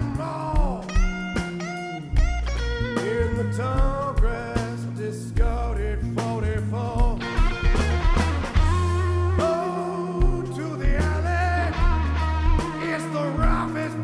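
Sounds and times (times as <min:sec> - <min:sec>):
man singing: 0:00.0 - 0:01.4, 0:03.0 - 0:07.7, 0:08.7 - 0:14.0
drums: 0:00.0 - 0:14.0
electric bass long low notes: 0:00.0 - 0:14.0
electric guitar: 0:00.0 - 0:14.0.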